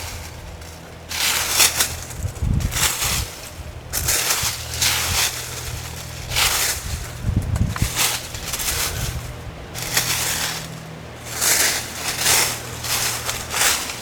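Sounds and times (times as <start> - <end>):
footsteps crunching dry leaves: 0.0 - 14.0
low hum: 0.0 - 14.0.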